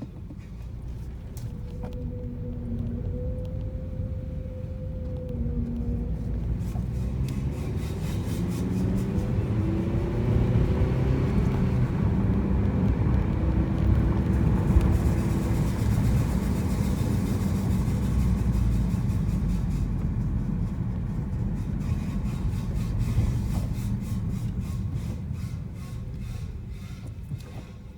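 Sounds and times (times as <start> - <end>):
brakes grinding: 0.0 - 27.9
car rumble: 0.0 - 27.9.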